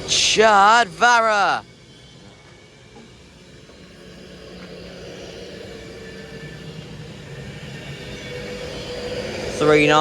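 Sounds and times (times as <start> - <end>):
electric train motor whine: 0.0 - 10.0
train rolling rumble: 0.0 - 10.0.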